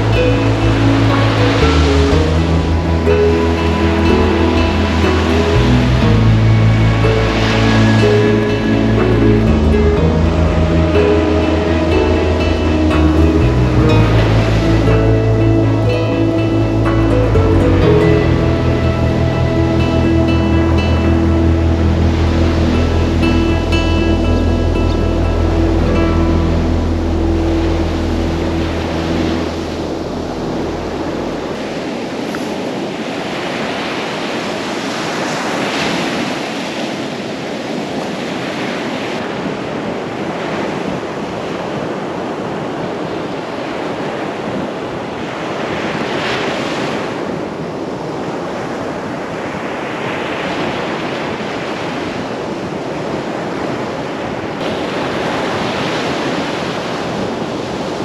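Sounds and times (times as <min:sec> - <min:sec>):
surf washing onto beach: 0:00.0 - 0:58.0
wave breaking: 0:00.0 - 0:58.0.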